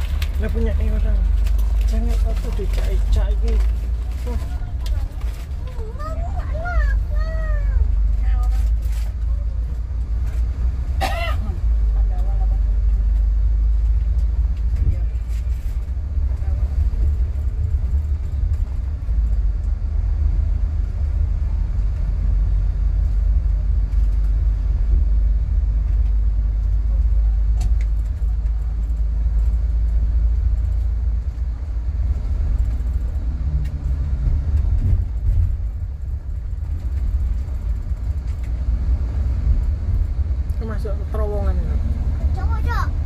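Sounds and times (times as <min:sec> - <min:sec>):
coach low rumble: 0:00.0 - 0:43.0.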